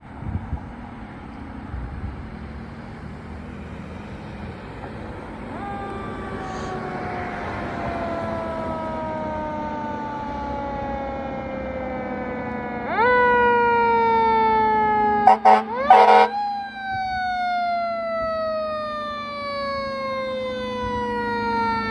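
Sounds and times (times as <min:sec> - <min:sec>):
vehicle rumble: 0:00.0 - 0:13.0, 0:15.1 - 0:21.9
fire truck siren: 0:03.5 - 0:21.9.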